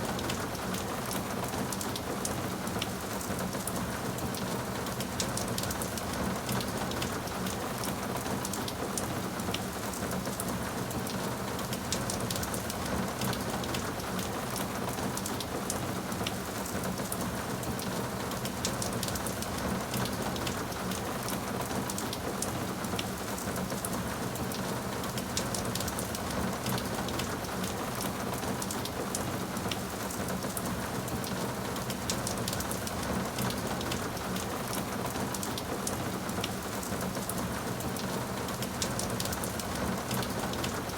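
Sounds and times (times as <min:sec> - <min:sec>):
rain drops pattering: 0:00.0 - 0:40.9.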